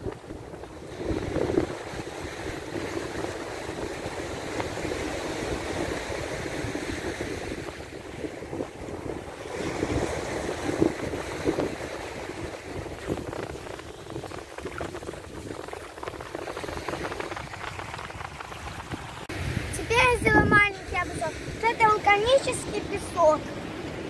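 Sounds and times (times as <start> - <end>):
small waves breaking on shore: 0.0 - 24.0
wind rumbling on microphone: 0.0 - 24.0.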